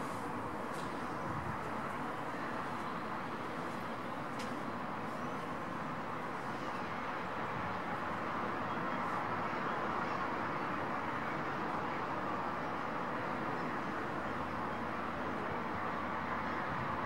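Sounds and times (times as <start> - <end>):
distant traffic hum: 0.0 - 17.0.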